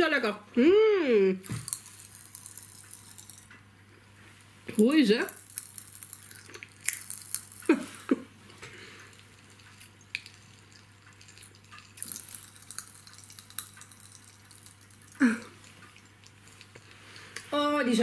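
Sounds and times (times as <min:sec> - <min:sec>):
popping candy crackling: 0:01.4 - 0:03.6, 0:04.7 - 0:18.0.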